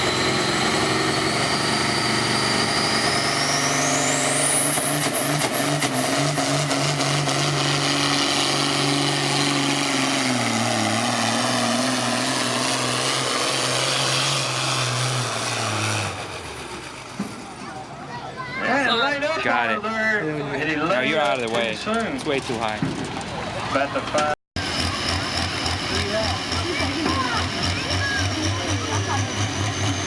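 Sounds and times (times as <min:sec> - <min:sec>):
vehicle engine running hard: 0:00.0 - 0:18.8, 0:23.0 - 0:30.0.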